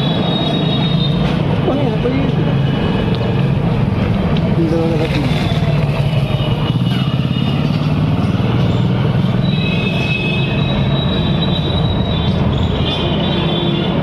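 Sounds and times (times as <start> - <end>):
heavy traffic rumbling: 0.0 - 14.0.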